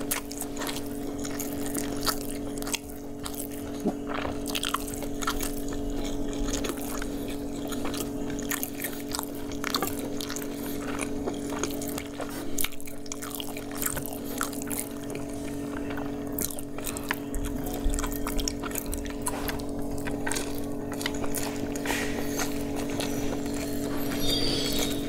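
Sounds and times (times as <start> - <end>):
wet chewing and mouth clicks: 0.0 - 25.0.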